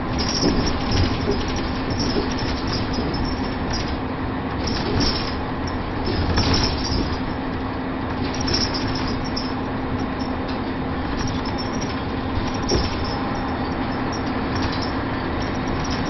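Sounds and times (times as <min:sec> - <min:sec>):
bus engine droning: 0:00.0 - 0:16.0
bus interior rattling: 0:00.0 - 0:16.0
road noise: 0:00.0 - 0:16.0.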